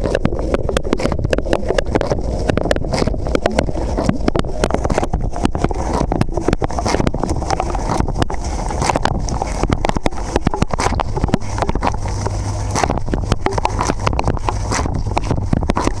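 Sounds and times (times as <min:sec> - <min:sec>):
wash pump humming: 0:00.0 - 0:16.0
water jets splashing: 0:00.0 - 0:16.0.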